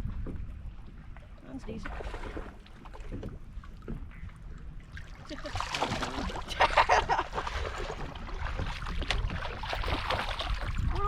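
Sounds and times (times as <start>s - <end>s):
water splashing beside boat: 0.0s - 11.0s
wind rumbling on microphone: 0.0s - 11.0s.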